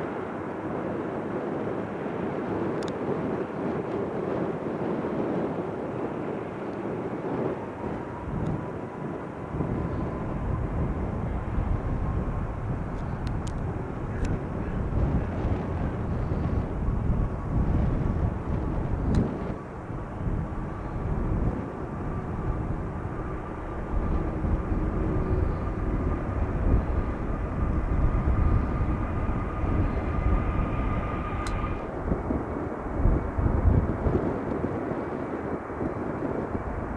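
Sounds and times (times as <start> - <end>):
faint thin engine whine: 0.0 - 36.9
jet engines rumbling: 0.0 - 36.9.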